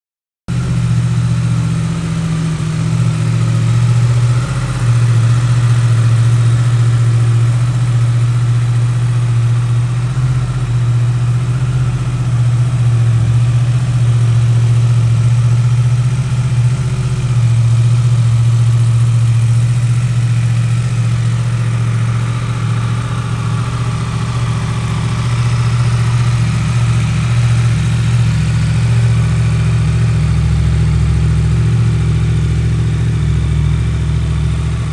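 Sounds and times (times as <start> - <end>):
motorcycle engine idling: 0.5 - 34.9.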